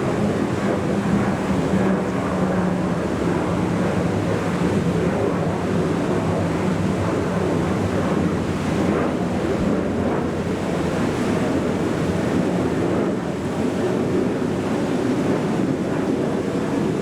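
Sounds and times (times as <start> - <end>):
boat engines rumbling: 0.0 - 17.0
water: 0.0 - 17.0
wind noise on microphone: 0.0 - 17.0.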